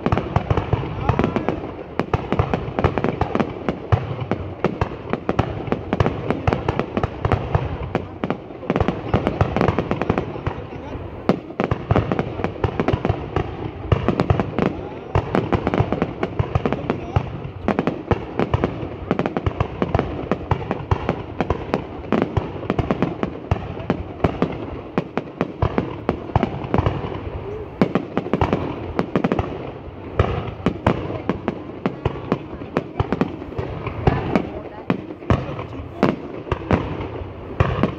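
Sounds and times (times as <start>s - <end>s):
fireworks cracks and bangs: 0.0s - 37.9s.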